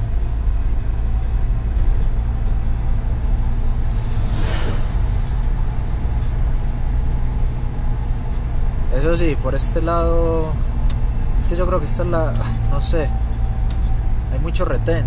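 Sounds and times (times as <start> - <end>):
road rumble: 0.0 - 15.0
truck engine running: 0.0 - 15.0.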